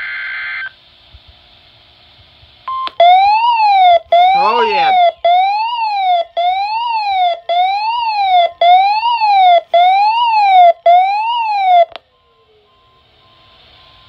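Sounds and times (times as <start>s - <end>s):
electronic alarm siren wailing: 2.7s - 14.0s.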